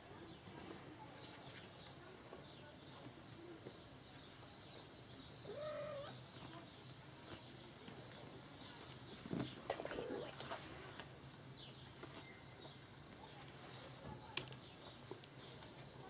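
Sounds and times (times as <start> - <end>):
faint background noise: 0.0 - 16.0.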